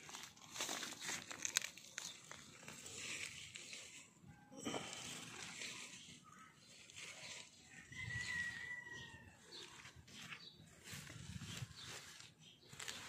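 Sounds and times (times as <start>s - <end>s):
leafy vines rustling: 0.0s - 13.0s.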